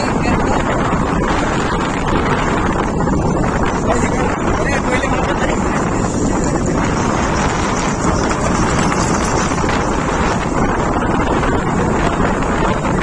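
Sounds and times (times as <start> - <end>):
wind buffeting microphone: 0.0 - 13.0
motorcycle running: 0.4 - 13.0.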